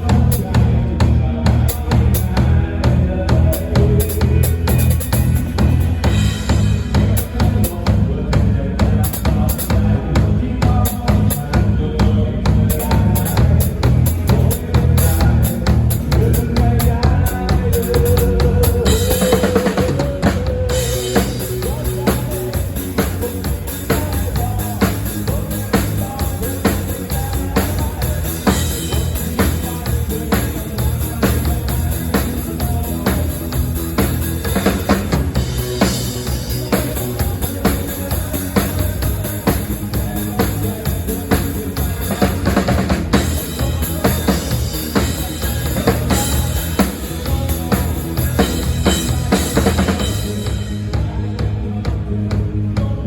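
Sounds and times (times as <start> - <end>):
rock band playing: 0.0 - 53.0
steady bass line: 0.0 - 53.0.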